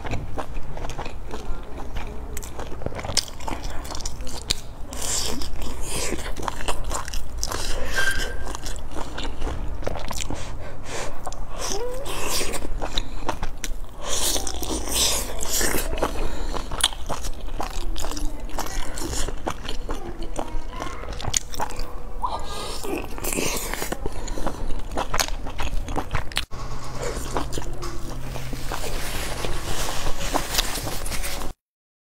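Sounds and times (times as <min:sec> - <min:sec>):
person chewing: 0:00.0 - 0:31.6.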